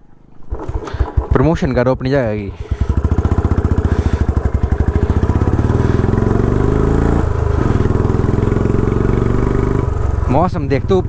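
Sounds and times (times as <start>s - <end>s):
motorcycle engine accelerating: 0.4s - 11.0s.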